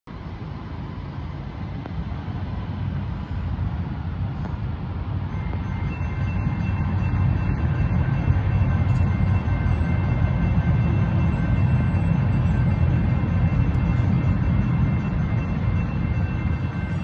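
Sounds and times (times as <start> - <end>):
low rumble: 0.1 - 17.0
railroad crossing warning bells: 0.2 - 17.0.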